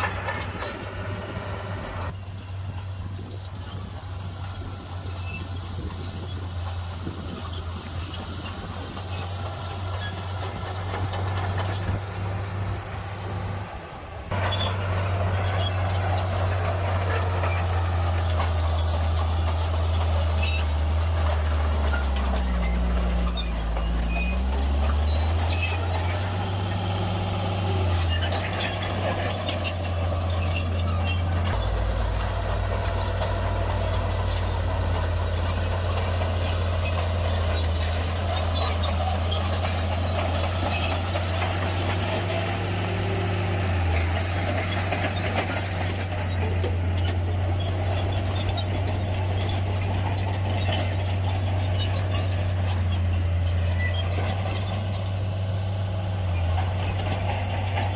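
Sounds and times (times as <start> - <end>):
diesel machinery engine droning: 0.0 - 57.9
short clanks and squeaks: 0.0 - 57.9.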